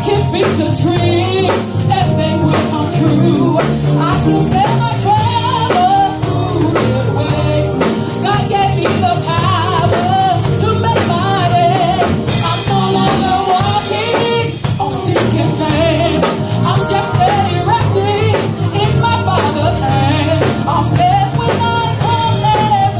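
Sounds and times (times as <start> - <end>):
band playing: 0.0 - 22.9
bass: 0.0 - 22.9
steady drum beat: 0.0 - 22.9
woman singing: 0.0 - 22.9.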